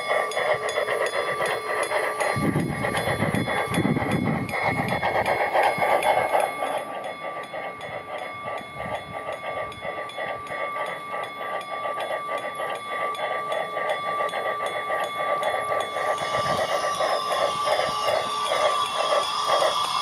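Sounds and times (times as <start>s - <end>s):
model steam locomotive chuffing: 0.0s - 20.0s
steady high whine: 0.0s - 20.0s.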